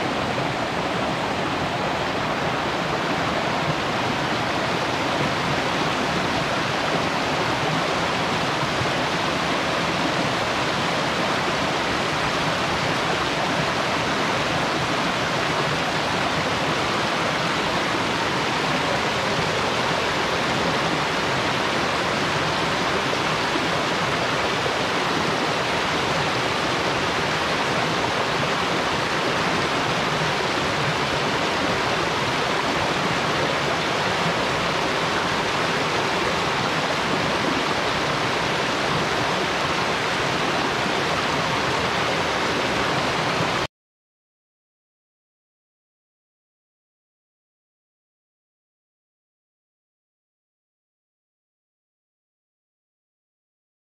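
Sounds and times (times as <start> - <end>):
waterfall rushing: 0.0 - 43.7.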